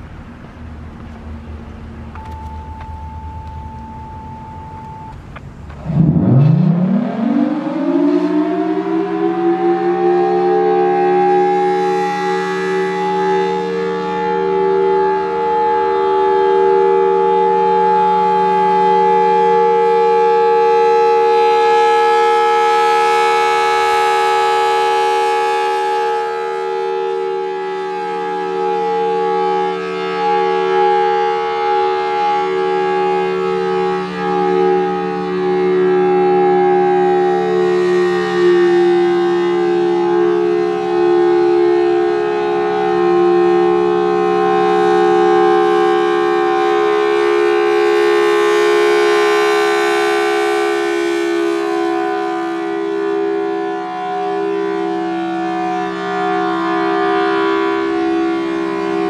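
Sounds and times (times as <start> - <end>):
rotating siren alert tone: 2.1 - 51.0, 51.6 - 59.0.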